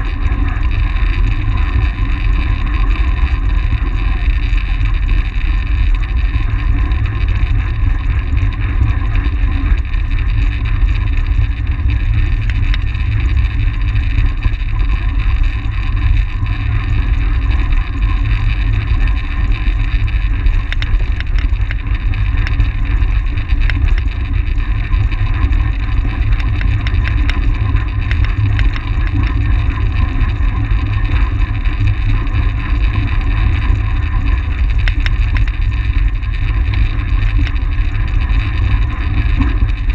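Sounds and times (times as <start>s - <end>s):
bicycle rolling hum: 0.0s - 39.9s
wind rumble on microphone: 0.0s - 39.9s.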